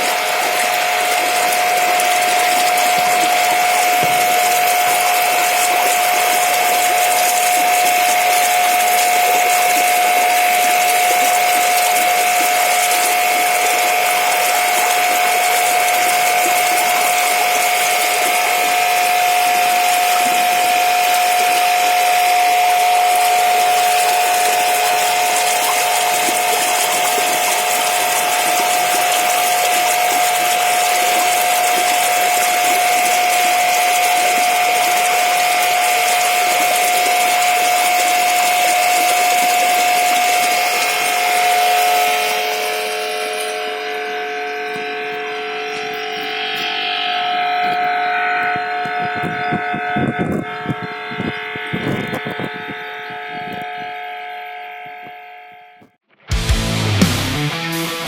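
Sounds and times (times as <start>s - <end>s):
machine whining with hiss: 0.0s - 49.8s.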